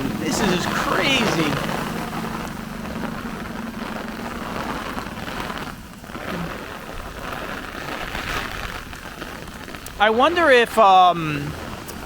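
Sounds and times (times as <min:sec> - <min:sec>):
gusty wind buffeting: 0:00.0 - 0:12.0
heavy rain: 0:00.0 - 0:12.0.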